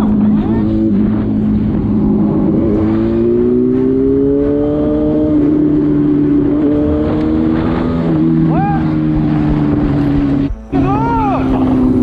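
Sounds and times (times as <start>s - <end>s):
wind and road rush: 0.0s - 12.0s.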